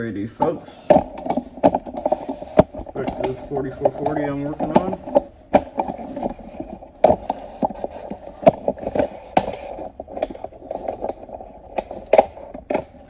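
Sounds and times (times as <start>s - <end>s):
hard objects knocking and clicking: 0.4s - 13.0s.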